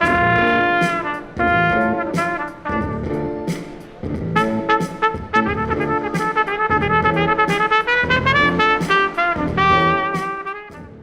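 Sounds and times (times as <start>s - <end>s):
trumpet melody: 0.0s - 11.0s.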